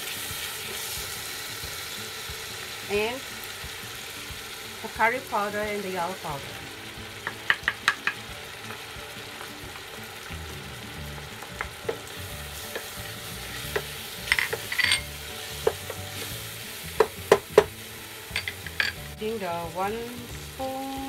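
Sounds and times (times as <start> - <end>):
curry base sizzling: 0.0 - 21.0.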